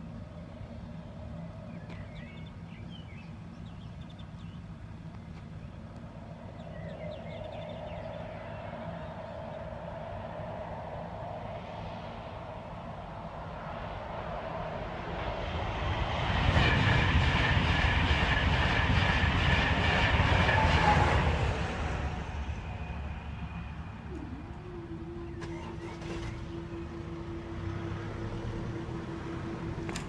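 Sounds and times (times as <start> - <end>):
steady low tone: 0.0 - 30.0.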